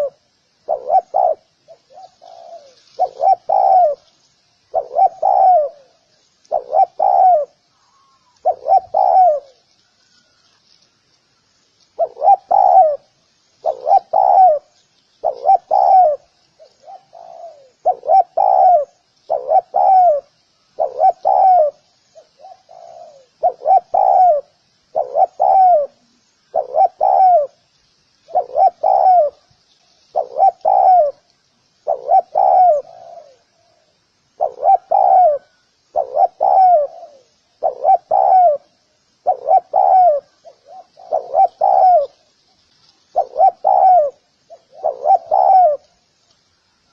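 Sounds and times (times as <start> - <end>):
dove cooing: 0.0 - 10.5, 12.0 - 29.5, 30.1 - 42.4, 43.0 - 46.0.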